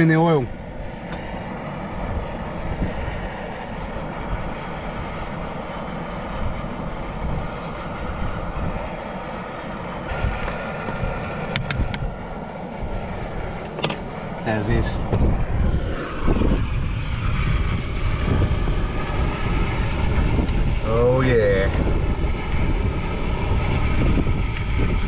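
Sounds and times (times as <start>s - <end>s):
wind on microphone: 0.4s - 25.0s.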